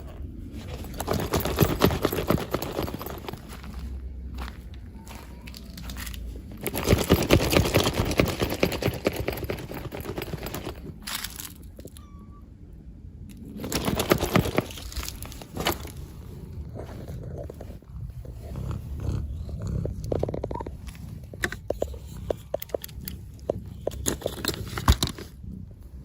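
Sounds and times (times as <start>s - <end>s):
rustling: 0.0s - 11.8s, 13.4s - 26.0s.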